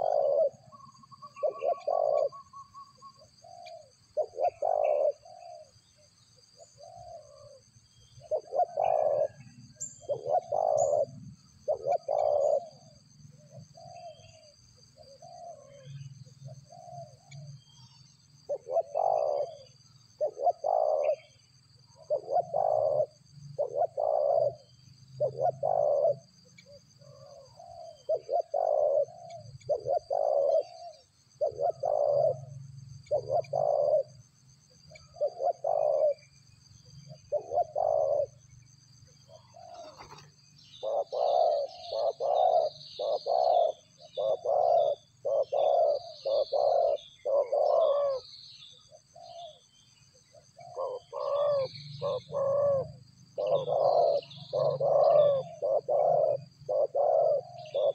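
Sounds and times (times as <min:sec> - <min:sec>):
dove-like cooing calls: 0:00.0 - 0:57.9
small birds chirping: 0:00.0 - 0:57.9.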